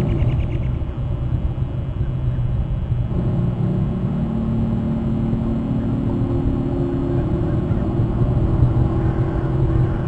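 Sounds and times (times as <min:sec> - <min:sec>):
low rumble with droning tones: 0:00.0 - 0:10.0.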